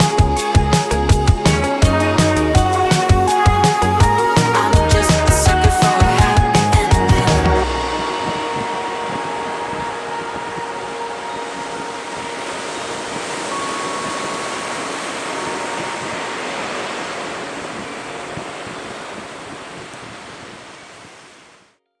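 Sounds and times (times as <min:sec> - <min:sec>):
sea surf washing on shore: 0:01.7 - 0:21.8.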